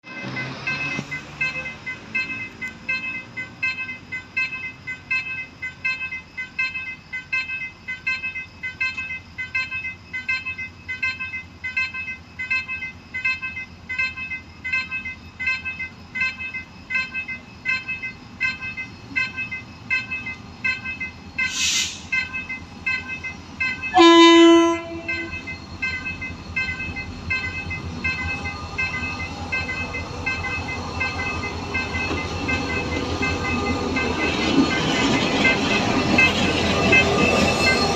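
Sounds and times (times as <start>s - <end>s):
level crossing bell ringing: 0.0s - 21.6s, 22.2s - 37.9s.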